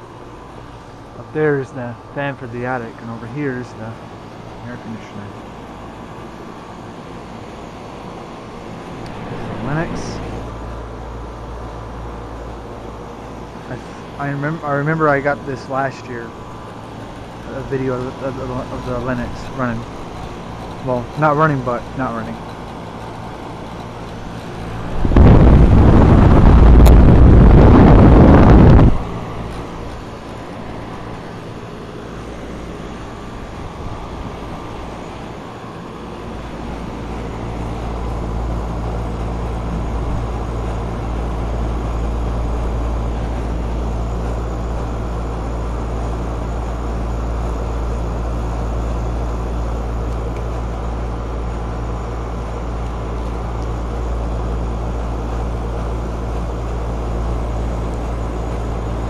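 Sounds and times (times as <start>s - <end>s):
air conditioner compressor hum: 0.0s - 59.0s.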